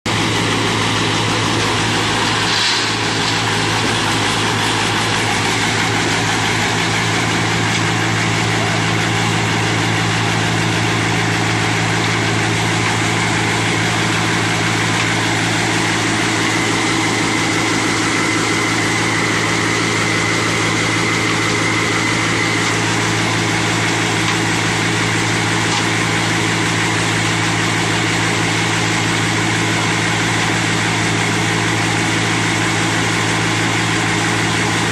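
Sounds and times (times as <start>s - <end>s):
concrete pump engine hum: 0.1s - 34.9s.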